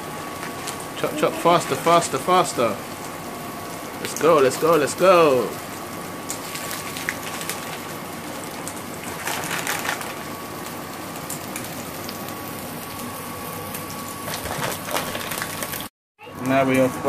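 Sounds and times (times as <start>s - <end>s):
food frying in a pan: 0.0s - 17.0s.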